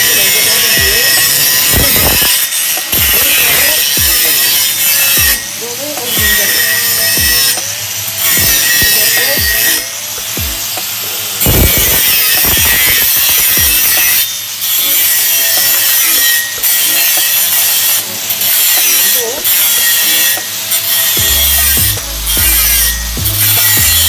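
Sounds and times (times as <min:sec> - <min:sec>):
angle grinder grinding metal pipe: 0:00.0 - 0:24.0.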